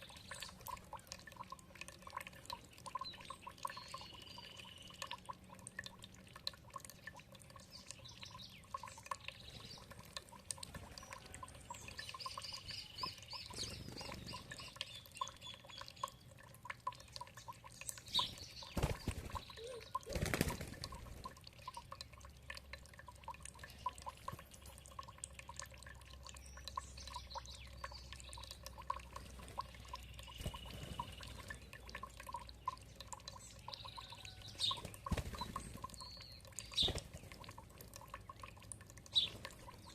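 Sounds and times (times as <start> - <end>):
birds chirping: 0.0 - 5.9, 6.8 - 39.9
water dripping and trickling: 0.0 - 39.9.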